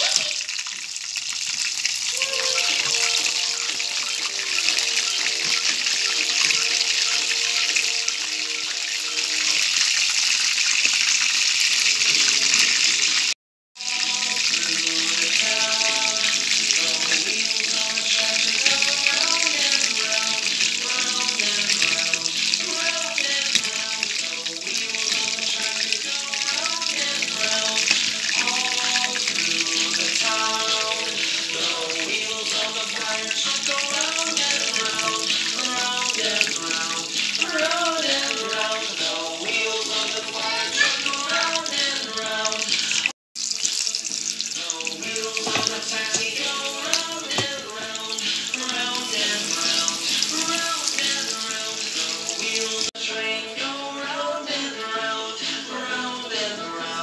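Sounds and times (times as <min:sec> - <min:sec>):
chicken sizzling in hot oil: 0:00.0 - 0:57.0
background music: 0:02.1 - 0:10.1, 0:11.9 - 0:57.0.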